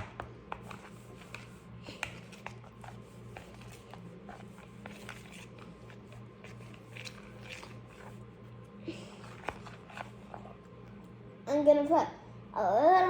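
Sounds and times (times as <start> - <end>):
steady low hum: 0.0 - 13.0
paste stirred in a bowl: 0.5 - 11.1.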